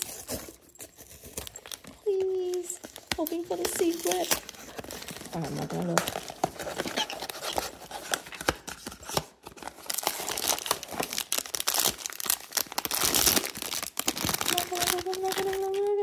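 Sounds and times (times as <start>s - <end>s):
cardboard and paper rustling: 0.0s - 16.0s
foil bag crinkling and tearing: 0.0s - 16.0s.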